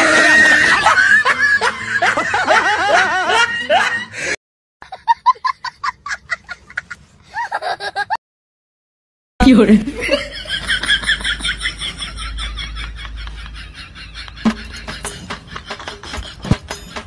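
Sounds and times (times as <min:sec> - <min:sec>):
laughter and giggling: 0:00.0 - 0:04.2, 0:04.8 - 0:08.2, 0:09.9 - 0:17.0.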